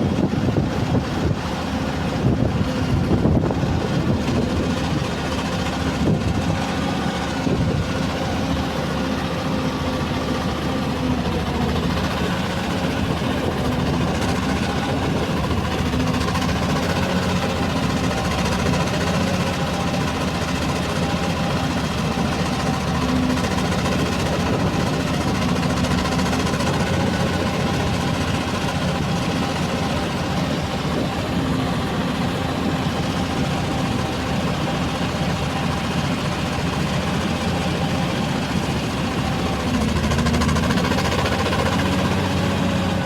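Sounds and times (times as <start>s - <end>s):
diesel engine idling unevenly: 0.0s - 43.0s.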